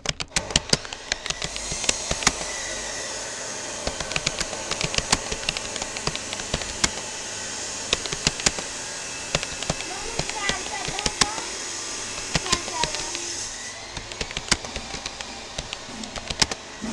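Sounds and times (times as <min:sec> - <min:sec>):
computer keyboard keystroke clicks: 0:00.0 - 0:03.0, 0:03.7 - 0:07.2, 0:07.8 - 0:16.6
steady hiss: 0:00.0 - 0:16.9.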